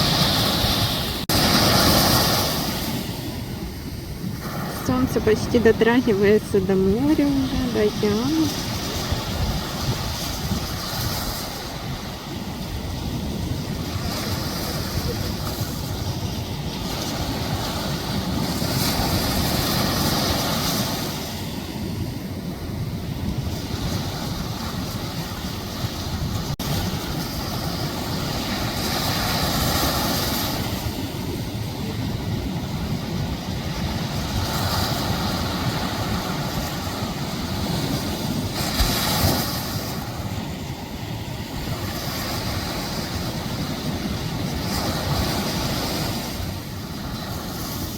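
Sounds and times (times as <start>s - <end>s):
ocean surf breaking: 0.0s - 47.9s
wind rumbling on microphone: 0.0s - 47.9s.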